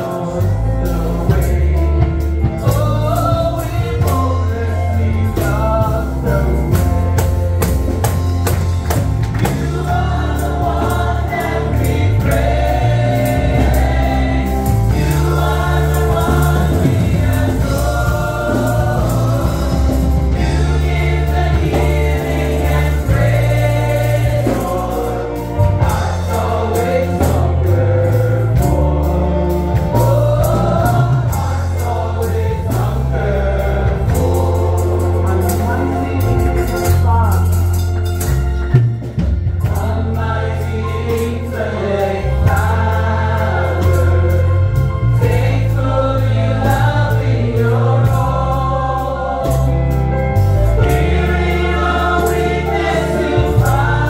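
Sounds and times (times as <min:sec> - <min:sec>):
bass line: 0:00.0 - 0:54.0
choir singing gospel song: 0:00.0 - 0:54.0
steady drum beat: 0:00.0 - 0:54.0.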